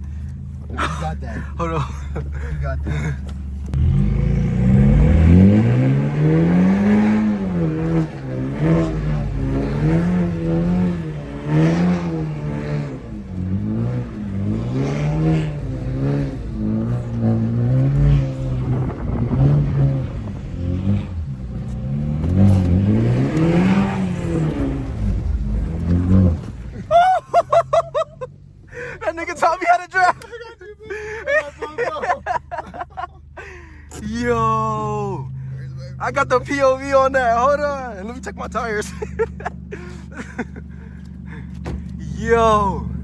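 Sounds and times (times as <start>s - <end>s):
car engine revving hard: 0.0s - 43.0s
tyres spinning on wet pavement: 0.1s - 43.0s.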